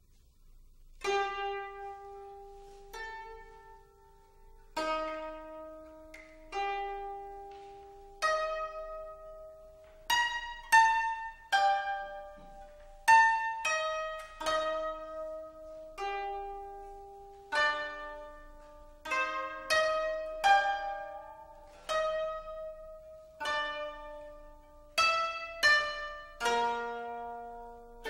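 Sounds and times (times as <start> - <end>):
koto plucked notes: 0.9 - 28.0.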